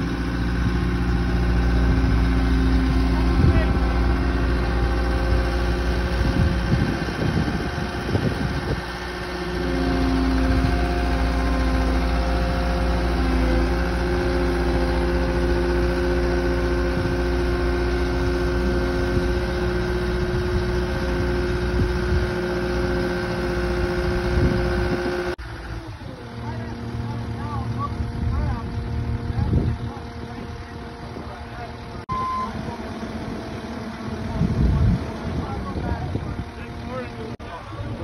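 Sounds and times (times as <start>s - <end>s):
diesel engines rumbling: 0.0s - 38.0s
hydraulic whine: 0.0s - 38.0s.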